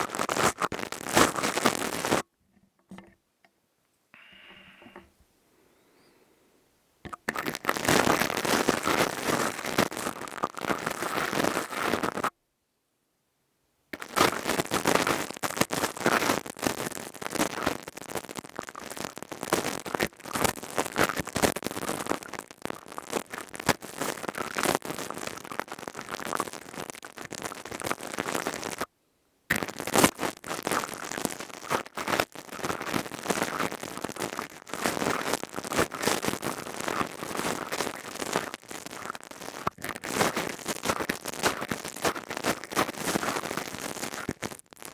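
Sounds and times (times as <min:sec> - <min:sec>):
crystal tube scratching on microphone: 0:00.0 - 0:02.2, 0:07.1 - 0:12.3, 0:14.0 - 0:28.9, 0:29.5 - 0:44.9.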